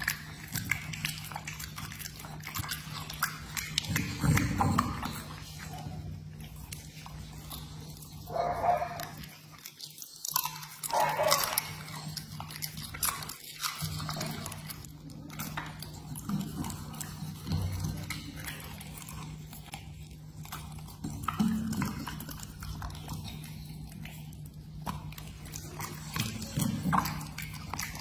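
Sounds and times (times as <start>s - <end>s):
dog chewing and licking: 0.0s - 28.0s.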